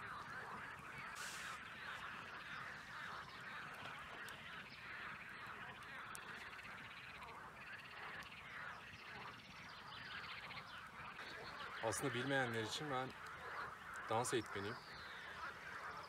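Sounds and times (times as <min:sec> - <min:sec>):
chorus of animal calls: 0:00.0 - 0:16.0.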